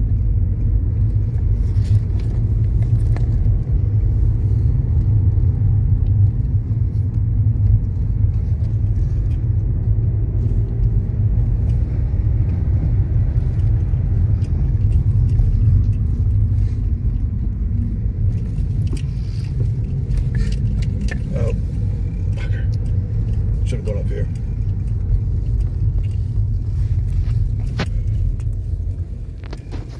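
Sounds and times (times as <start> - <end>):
faint engine hum: 0.0 - 29.9
road noise inside car: 0.0 - 29.9.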